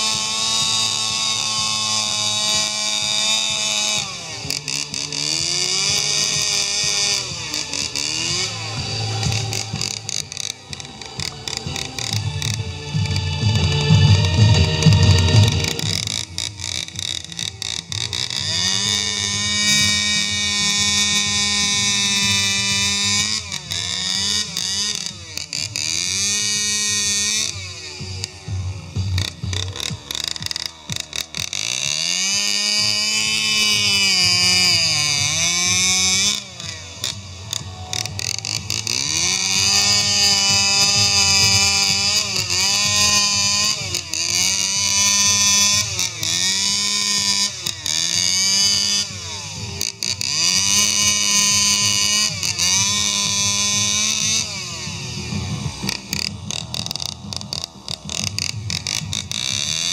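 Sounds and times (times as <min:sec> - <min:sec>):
chainsaw cutting into log: 0:00.0 - 0:59.9.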